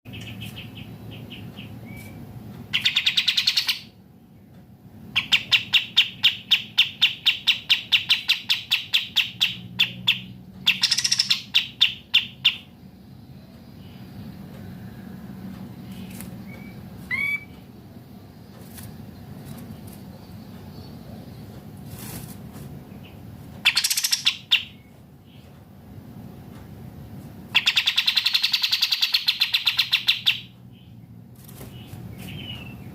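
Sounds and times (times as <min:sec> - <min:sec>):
songbirds chattering: 0:00.1 - 0:32.9.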